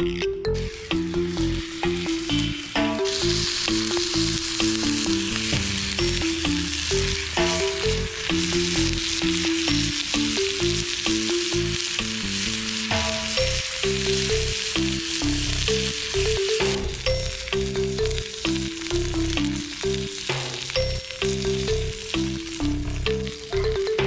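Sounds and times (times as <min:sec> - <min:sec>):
background music: 0:00.0 - 0:24.0
food sizzling: 0:00.0 - 0:24.0.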